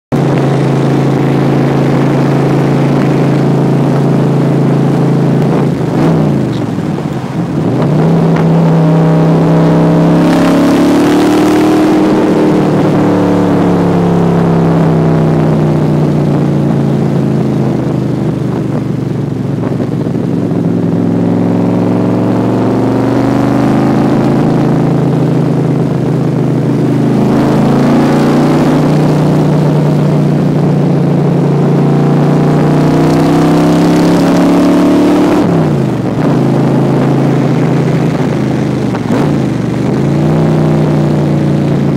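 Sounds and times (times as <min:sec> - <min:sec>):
car engine while driving: 0:00.1 - 0:41.9.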